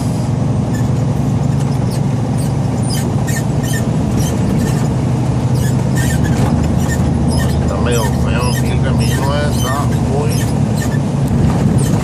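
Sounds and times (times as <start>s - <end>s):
truck cab squeaks and creaks: 0.0s - 12.0s
truck engine and road noise: 0.0s - 12.0s.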